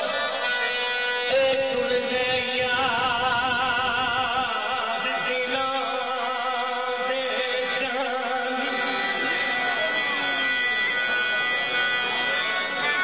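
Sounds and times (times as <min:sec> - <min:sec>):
harmonium: 0:00.0 - 0:13.0
person singing with vibrato: 0:00.0 - 0:13.0.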